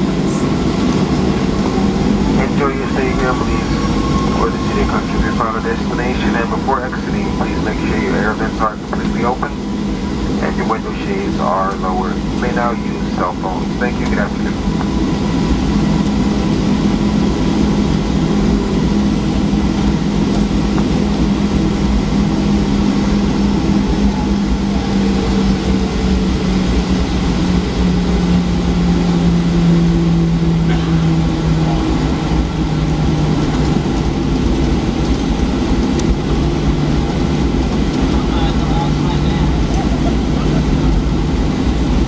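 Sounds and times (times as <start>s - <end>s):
airplane cabin rumble: 0.0s - 42.0s
jet engine hum: 0.0s - 42.0s.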